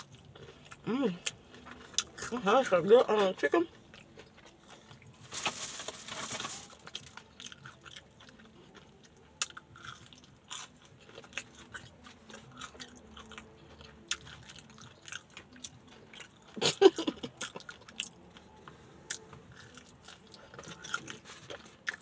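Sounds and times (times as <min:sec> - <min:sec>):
crunchy chewing: 0:00.0 - 0:02.8, 0:03.6 - 0:05.6, 0:06.2 - 0:22.0.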